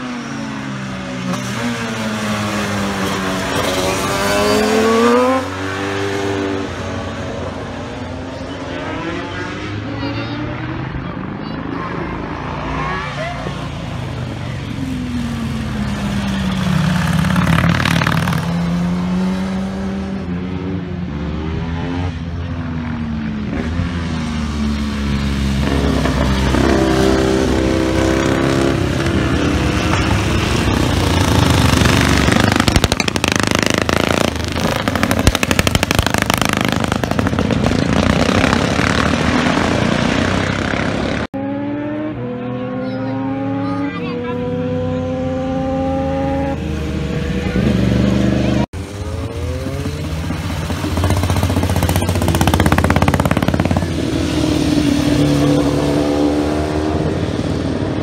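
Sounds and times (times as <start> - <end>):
motorcycles passing at speed: 0.0 - 58.0.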